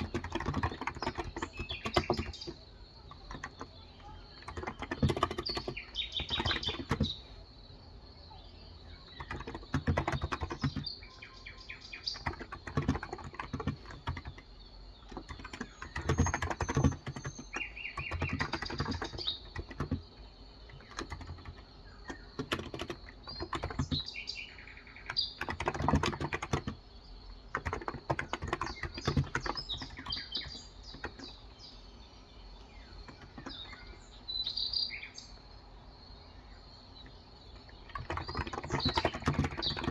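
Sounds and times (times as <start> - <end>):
keyboard typing: 0.0 - 7.4, 8.8 - 31.8, 32.6 - 34.4, 37.0 - 39.9
birds chirping: 0.0 - 39.9.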